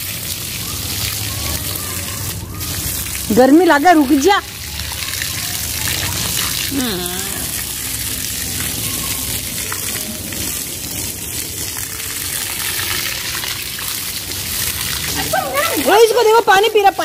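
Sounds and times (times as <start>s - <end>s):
garden hose spraying water: 0.0s - 17.0s.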